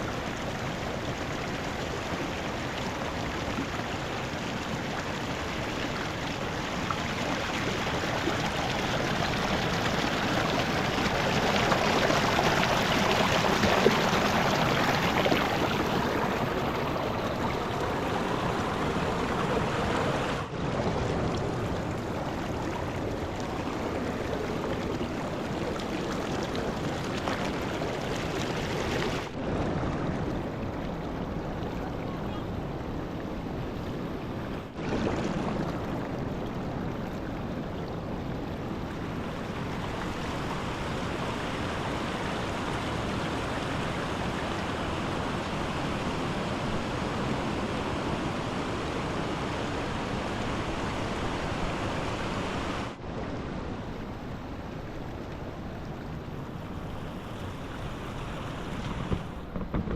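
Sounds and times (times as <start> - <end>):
fast-flowing river rushing: 0.0 - 59.8.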